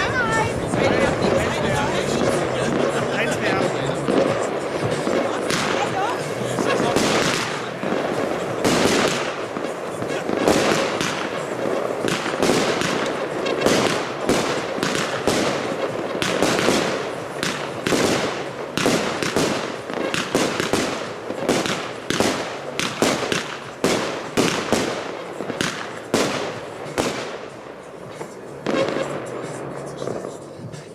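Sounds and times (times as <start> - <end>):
firework crackle: 0.0 - 30.9
firework shots and bangs: 0.0 - 30.9.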